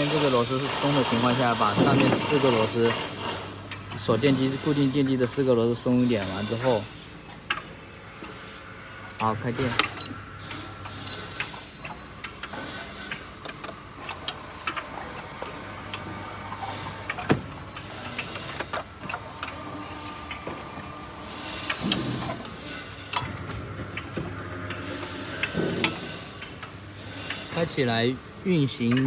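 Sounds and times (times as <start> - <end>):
electric motor hum and whine: 0.0 - 29.0.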